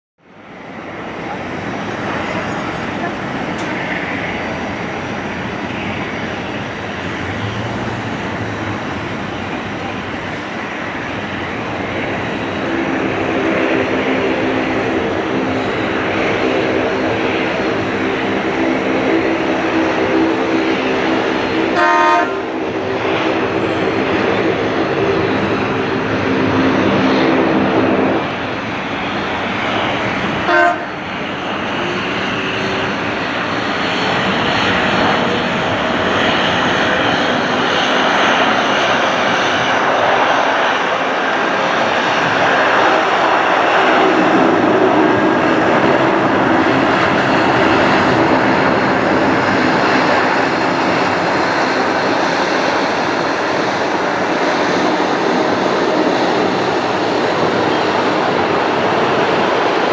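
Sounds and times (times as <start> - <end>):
jet engine roar: 0.2 - 59.9.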